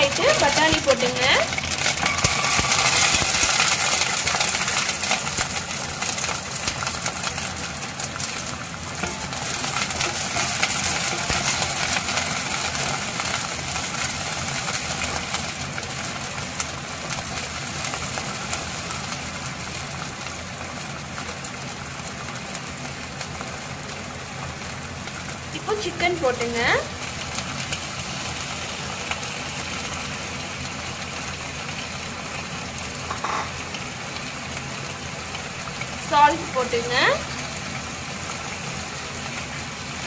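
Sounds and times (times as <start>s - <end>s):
peas sizzling in hot oil: 0.0s - 40.0s.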